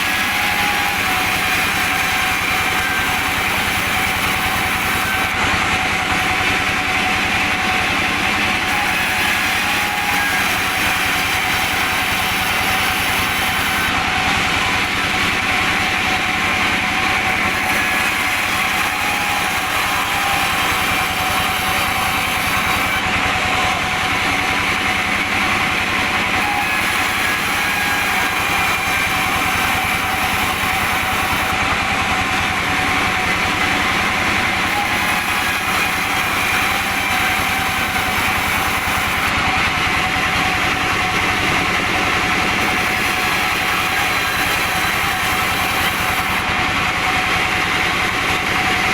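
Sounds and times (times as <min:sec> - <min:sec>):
sawmill machinery whining: 0:00.0 - 0:48.9.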